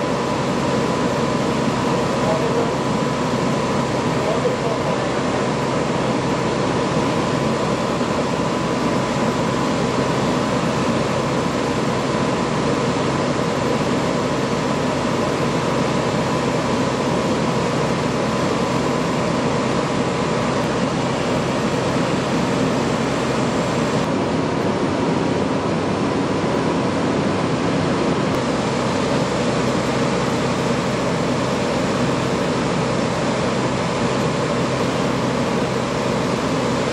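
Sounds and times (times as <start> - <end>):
fire engine running: 0.0 - 36.9.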